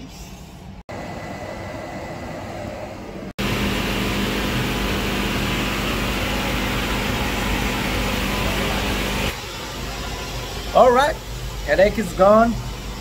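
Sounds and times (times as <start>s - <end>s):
laser cutter whirring hum: 0.9s - 13.0s.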